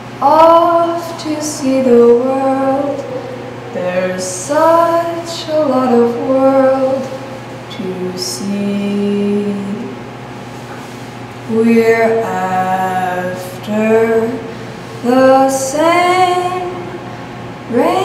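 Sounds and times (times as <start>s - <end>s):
woman singing slow melody: 0.2s - 10.0s, 11.5s - 18.0s.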